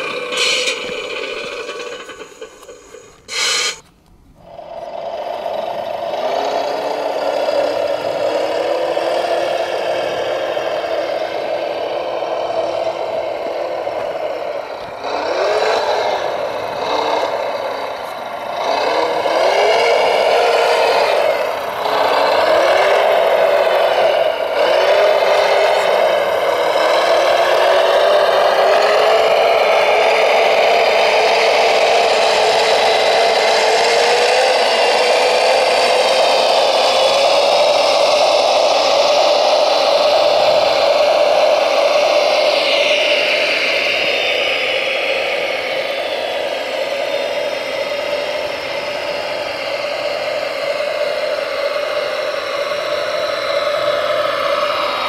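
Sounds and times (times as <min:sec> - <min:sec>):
model vehicle motor revving: 0:00.0 - 0:55.0.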